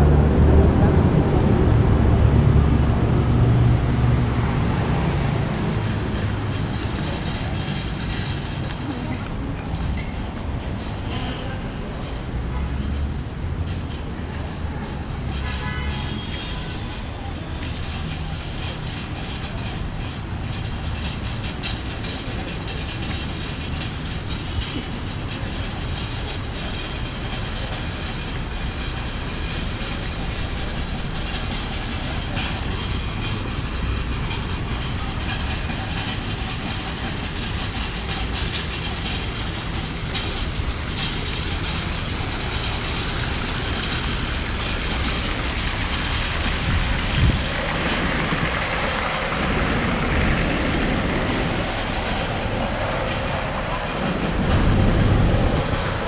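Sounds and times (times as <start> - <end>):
low rumbling background noise: 0.0 - 56.0.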